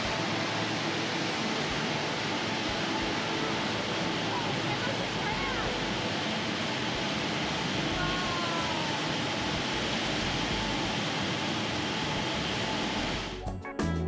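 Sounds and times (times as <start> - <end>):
indoor waterfall rushing: 0.0 - 13.3.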